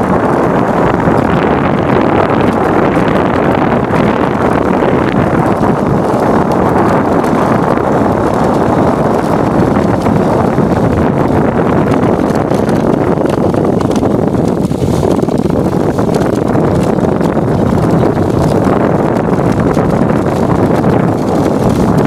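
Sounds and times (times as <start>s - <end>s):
sled runners scraping over snow: 0.0s - 22.0s
wind buffeting microphone: 0.0s - 22.0s.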